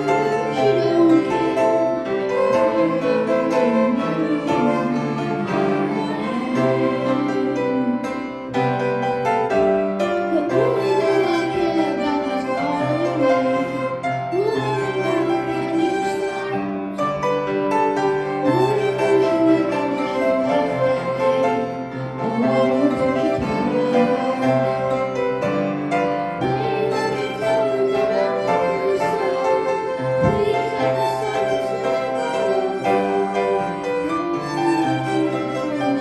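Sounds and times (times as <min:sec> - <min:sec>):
sustained chordal accompaniment: 0:00.0 - 0:36.0
violins playing melody: 0:00.0 - 0:36.0.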